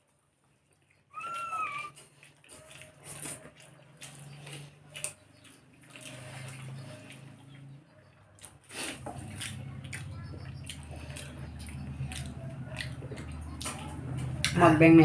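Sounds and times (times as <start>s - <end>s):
wet mouth eating sounds: 0.6s - 14.6s.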